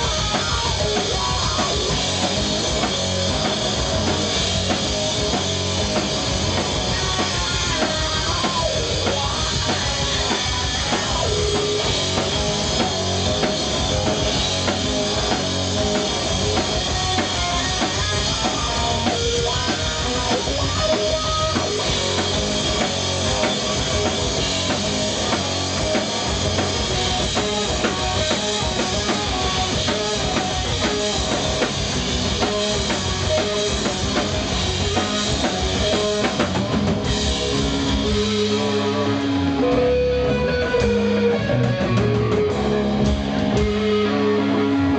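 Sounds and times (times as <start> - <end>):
bass guitar: 0.0 - 44.9
electric guitar: 0.0 - 44.9.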